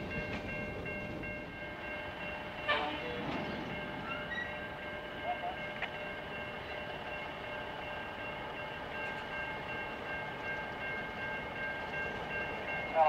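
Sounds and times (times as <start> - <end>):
crossing bell ringing: 0.0 - 13.0
freight train rumbling: 0.0 - 13.0.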